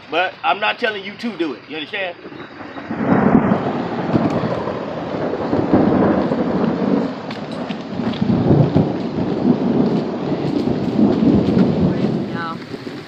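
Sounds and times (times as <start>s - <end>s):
heavy rain: 0.0s - 13.0s
thunder rumbling: 0.4s - 13.0s.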